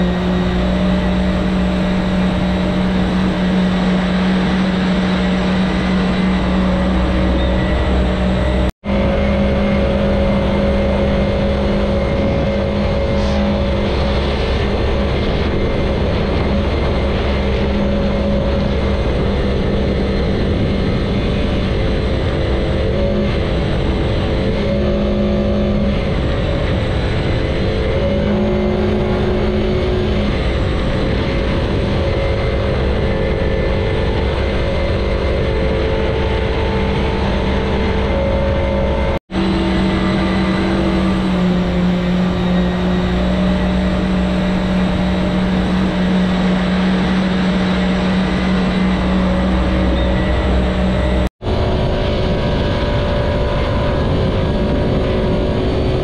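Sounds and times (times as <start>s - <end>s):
engine running hard: 0.0s - 56.0s.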